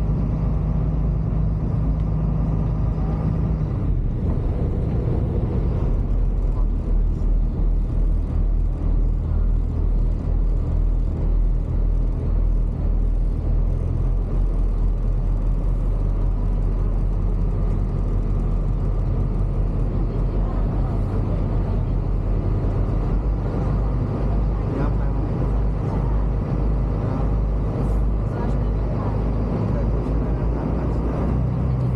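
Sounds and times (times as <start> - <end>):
boat engine rumbling: 0.0 - 31.9.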